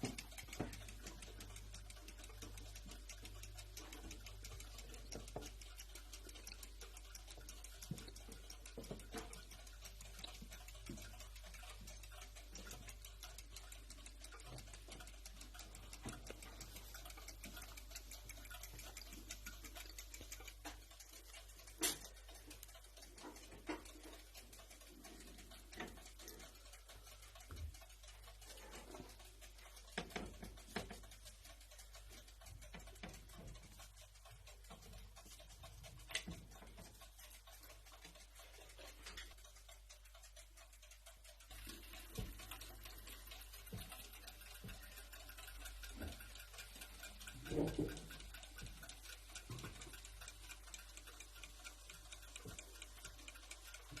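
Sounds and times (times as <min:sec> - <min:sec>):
light clicks and taps: 0:00.0 - 0:54.0
steady low hum: 0:00.0 - 0:54.0.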